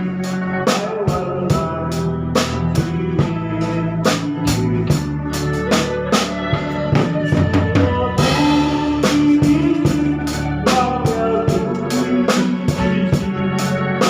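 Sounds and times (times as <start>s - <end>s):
drum kit beat: 0.0s - 14.0s
keyboard chords: 0.0s - 14.0s.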